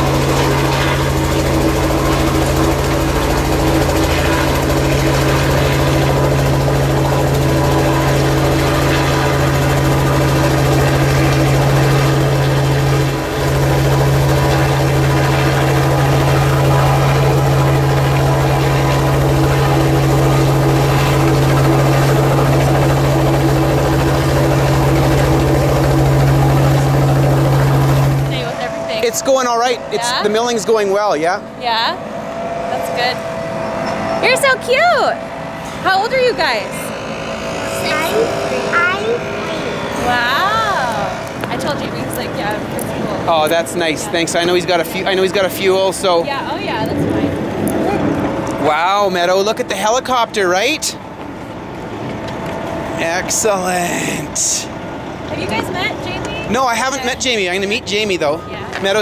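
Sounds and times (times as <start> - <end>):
helicopter drone: 0.0 - 59.0.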